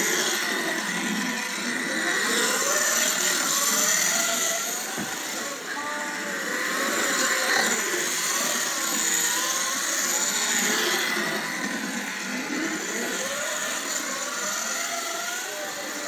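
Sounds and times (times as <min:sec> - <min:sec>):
slot car electric motor whining: 0:00.0 - 0:16.0.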